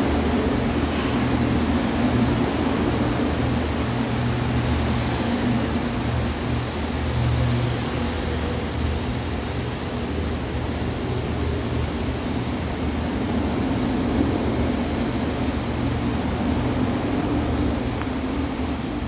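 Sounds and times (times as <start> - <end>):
low train hum: 0.0 - 19.0
train rumbling past: 0.0 - 19.0.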